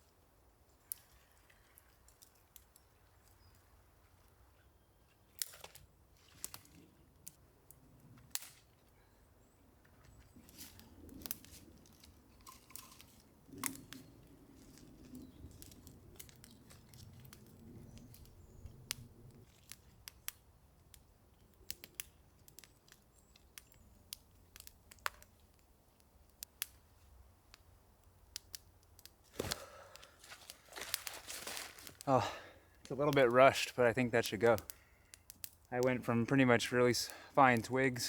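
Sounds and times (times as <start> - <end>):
campfire crackling and popping: 0.0 - 4.4, 5.3 - 8.9, 10.1 - 38.0.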